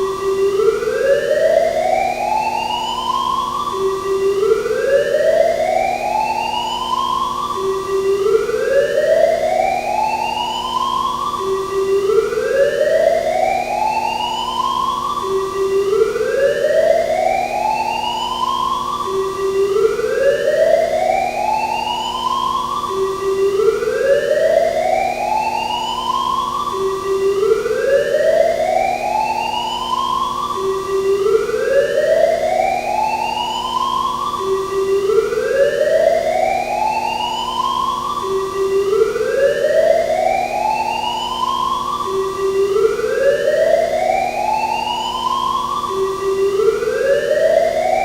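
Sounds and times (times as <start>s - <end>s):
fire alarm whoop: 0.0s - 48.0s.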